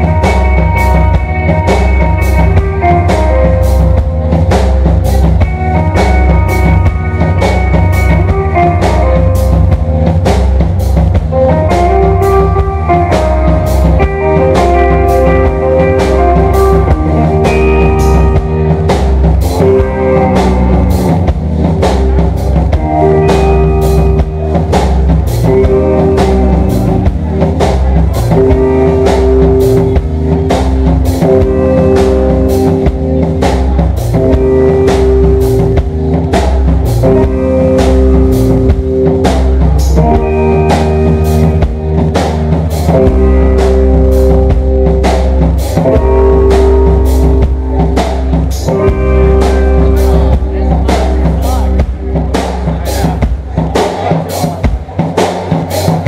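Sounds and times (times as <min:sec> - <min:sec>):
drum kit beat: 0:00.0 - 0:56.0
electric guitars: 0:00.0 - 0:56.0.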